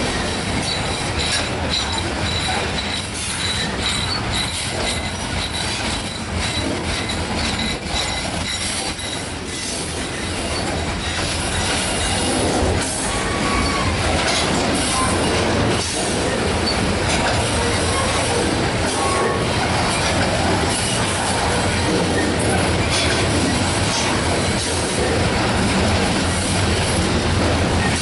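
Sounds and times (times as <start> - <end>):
train wheels rumbling on rails: 0.0 - 28.0
wheels clicking over rail joints: 0.0 - 28.0.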